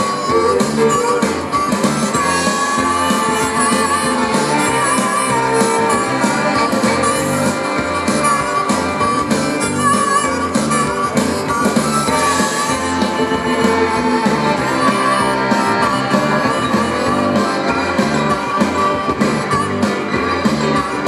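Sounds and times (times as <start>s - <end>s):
harmonica solo: 0.0s - 21.0s
live rock band playing: 0.0s - 21.0s.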